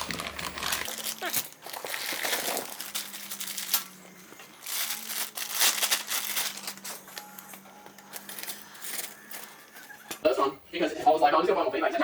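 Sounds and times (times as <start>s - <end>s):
crinkling and rustling: 0.0s - 10.2s.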